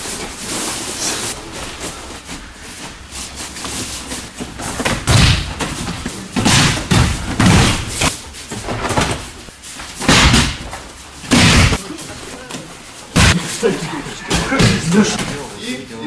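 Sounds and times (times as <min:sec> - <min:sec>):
bodies falling onto mats: 0:00.0 - 0:15.5.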